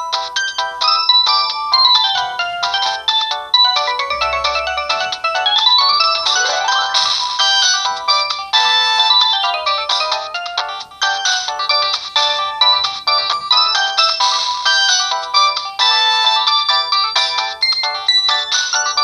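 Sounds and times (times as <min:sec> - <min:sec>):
phone ringtone melody: 0:00.0 - 0:19.0.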